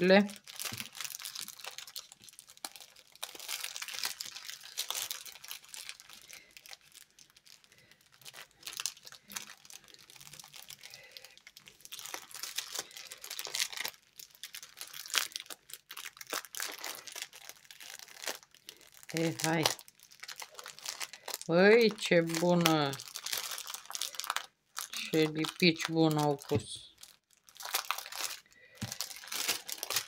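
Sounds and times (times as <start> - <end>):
plastic packaging crinkling: 0.0 - 30.0.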